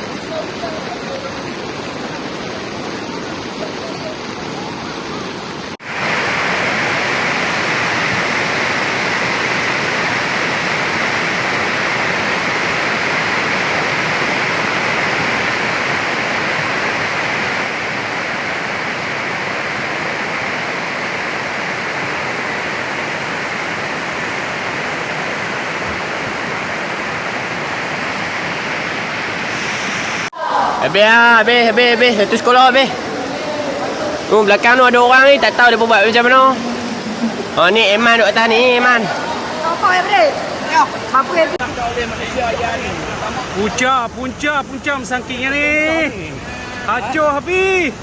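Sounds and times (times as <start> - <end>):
flood water rushing: 0.0 - 30.4, 39.0 - 48.0.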